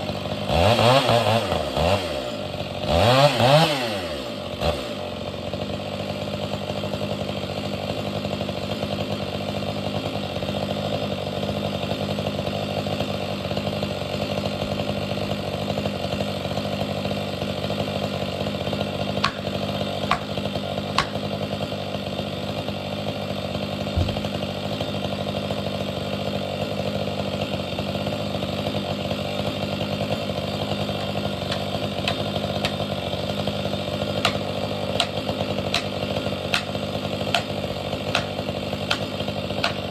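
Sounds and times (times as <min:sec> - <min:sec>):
chainsaw running at high speed: 0:00.0 - 0:39.9.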